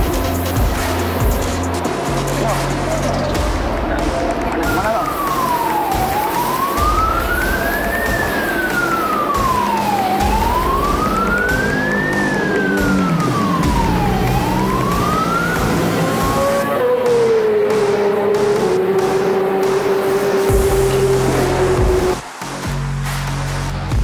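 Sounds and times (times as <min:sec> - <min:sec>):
wailing siren: 0:00.0 - 0:22.2
background music with low beat: 0:00.0 - 0:24.0.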